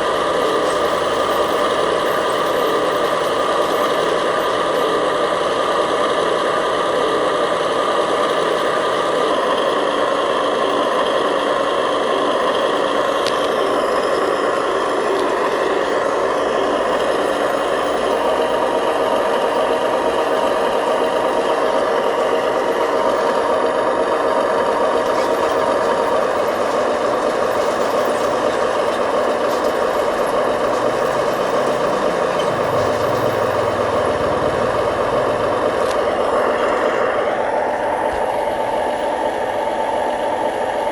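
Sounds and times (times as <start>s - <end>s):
toy construction machine motors: 0.0s - 40.9s.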